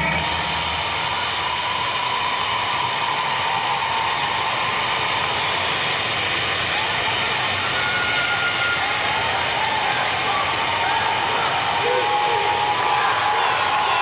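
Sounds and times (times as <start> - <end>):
crowd cheering and applauding: 0.0 - 14.0.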